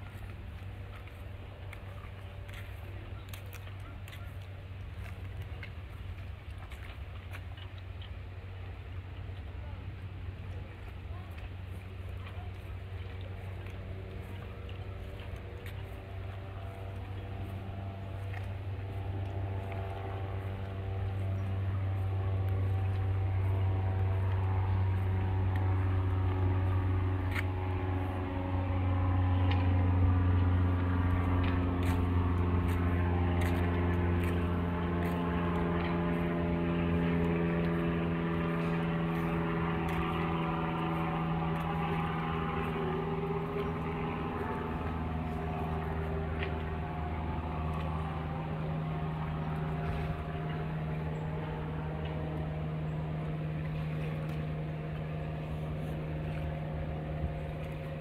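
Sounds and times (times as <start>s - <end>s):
engine running with low hum: 0.0s - 58.0s.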